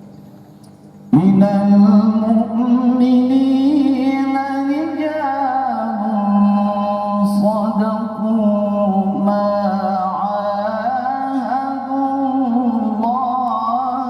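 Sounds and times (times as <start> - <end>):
man reciting melodically: 1.1 - 14.0.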